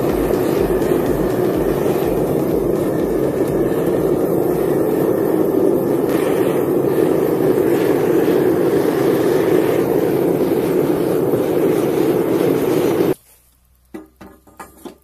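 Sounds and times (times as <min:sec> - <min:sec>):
furnace air blast roaring: 0:00.0 - 0:13.2.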